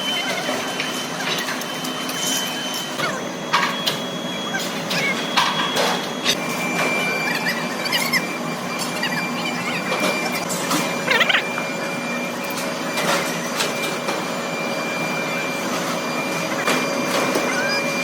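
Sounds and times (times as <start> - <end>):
running hum: 0.0 - 18.0
thin machine whine: 0.0 - 18.0.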